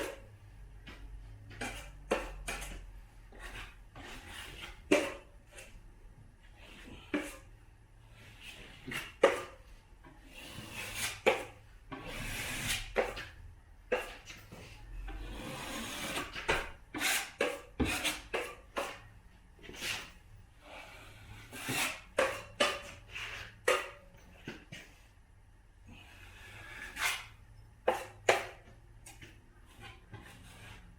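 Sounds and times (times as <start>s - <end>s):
taping knife scraping compound: 0.9s - 5.8s, 6.4s - 7.5s, 8.1s - 24.9s, 25.9s - 30.9s.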